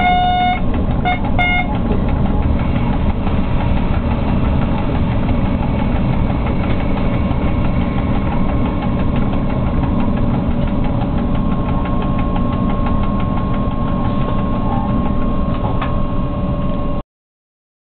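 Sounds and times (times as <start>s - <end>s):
locomotive cab rumble and rattle: 0.0s - 17.0s.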